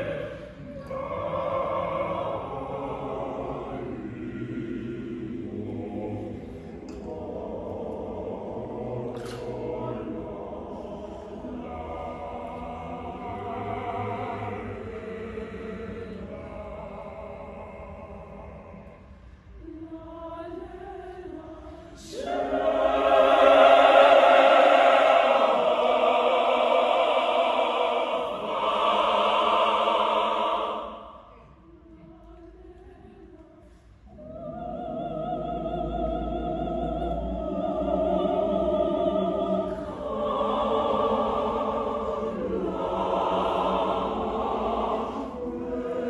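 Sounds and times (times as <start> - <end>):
mixed choir singing: 0.0 - 46.0.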